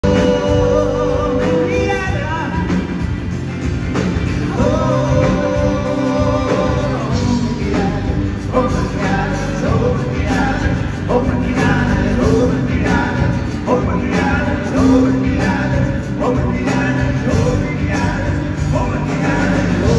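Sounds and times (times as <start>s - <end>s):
person singing: 0.0s - 3.1s, 4.2s - 19.9s
drum kit: 0.0s - 19.9s
guitars: 0.0s - 19.9s
live rock band: 0.0s - 19.9s.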